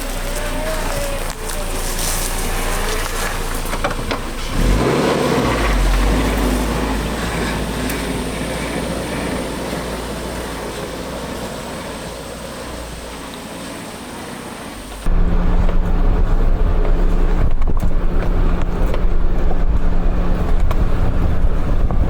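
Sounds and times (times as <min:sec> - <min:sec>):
motor engine starting and running: 0:00.0 - 0:22.0.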